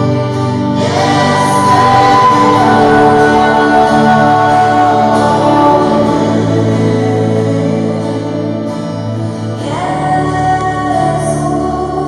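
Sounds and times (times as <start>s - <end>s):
woman singing into a microphone: 0.0s - 8.7s, 9.4s - 12.0s
keyboard chords: 0.0s - 10.9s
strummed guitar: 0.0s - 12.0s.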